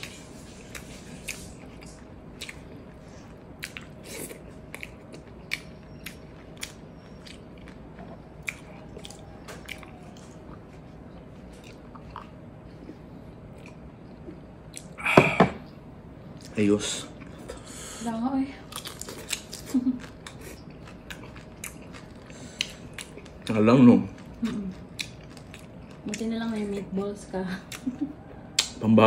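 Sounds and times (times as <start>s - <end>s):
close chewing with mouth smacks: 0.0s - 15.0s, 18.6s - 26.9s, 27.7s - 28.0s
faint steady hum: 0.0s - 29.0s.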